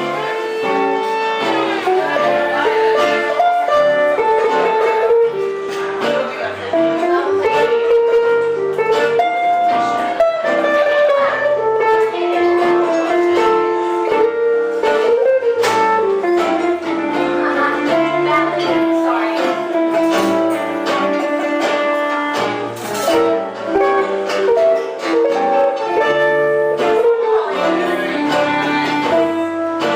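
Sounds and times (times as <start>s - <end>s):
strummed guitars: 0.0s - 29.9s.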